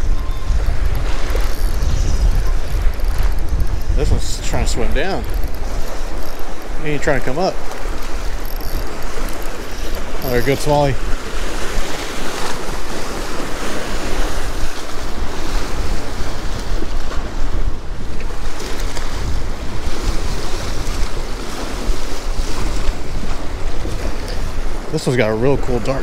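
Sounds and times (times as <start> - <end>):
water lapping against rocks: 0.0 - 26.0
wind buffeting microphone: 0.0 - 26.0.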